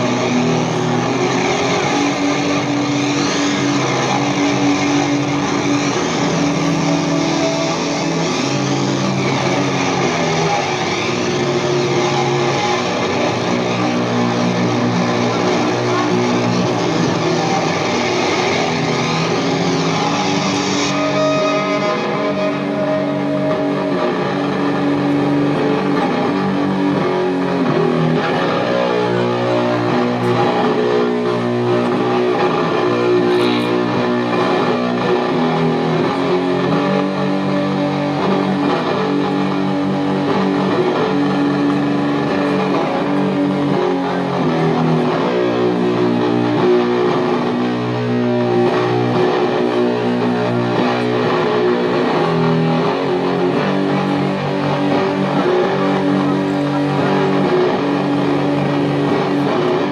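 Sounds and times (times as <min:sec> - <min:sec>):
distorted electric guitar chords: 0:00.0 - 0:59.9.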